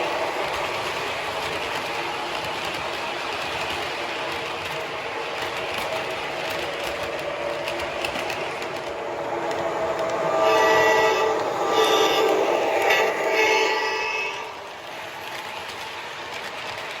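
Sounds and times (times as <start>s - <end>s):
train rumbling with wheel clatter: 0.0s - 17.0s.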